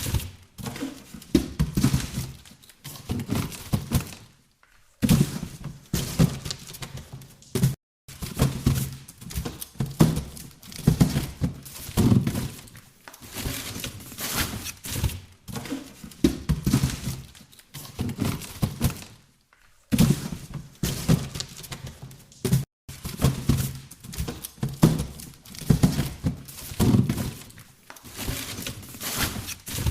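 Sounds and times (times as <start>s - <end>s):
cardboard boxes thunking: 0.0s - 4.4s, 5.0s - 19.2s, 19.9s - 29.9s
cardboard scraping and rustling: 5.0s - 19.2s, 19.9s - 29.9s.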